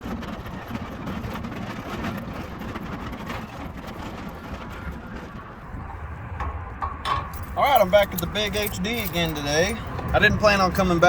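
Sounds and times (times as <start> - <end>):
low vehicle rumble: 0.0 - 11.0
clicks and rattles: 1.1 - 11.0.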